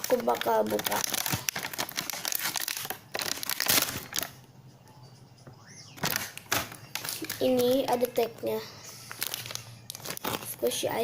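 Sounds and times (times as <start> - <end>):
plastic packaging crinkling: 0.0 - 4.4, 6.0 - 11.0.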